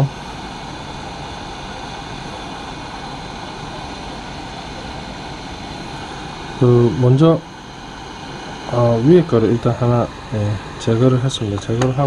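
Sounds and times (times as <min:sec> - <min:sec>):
hot air blower hissing: 0:00.0 - 0:12.0.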